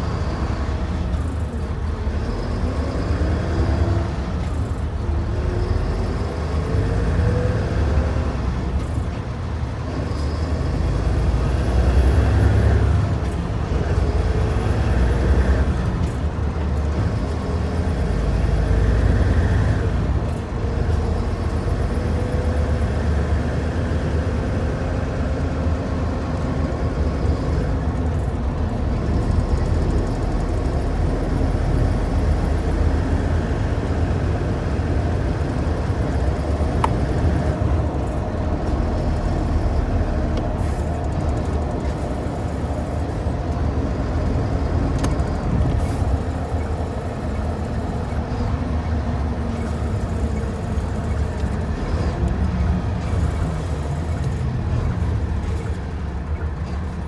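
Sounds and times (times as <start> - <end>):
truck diesel engine rumble: 0.0 - 57.0.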